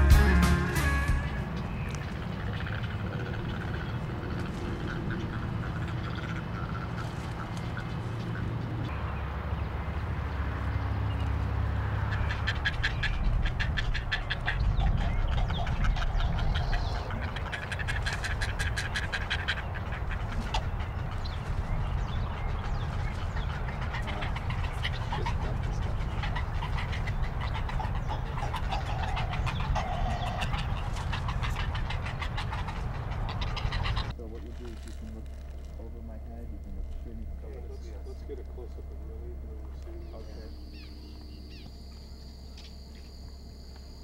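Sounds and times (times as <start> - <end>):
pulsing animal calls: 0.0 - 9.1, 9.7 - 44.0
steady low rumble: 0.0 - 44.0.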